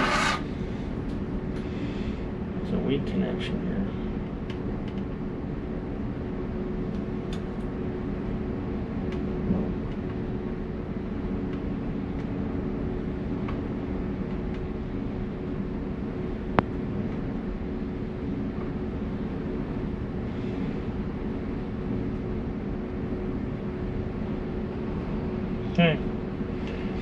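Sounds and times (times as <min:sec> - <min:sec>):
machinery hum: 0:00.0 - 0:27.0.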